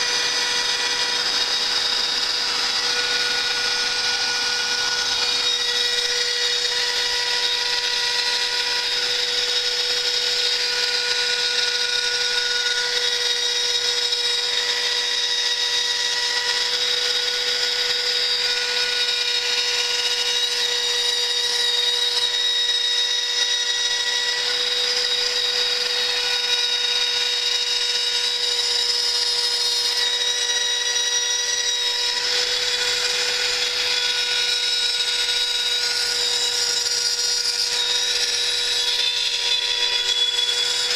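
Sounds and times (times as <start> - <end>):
router spindle milling metal: 0.0 - 40.9.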